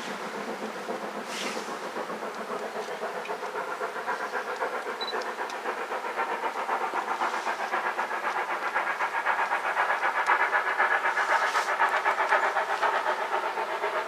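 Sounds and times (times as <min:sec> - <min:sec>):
steam locomotive exhaust beats: 0:00.0 - 0:14.0.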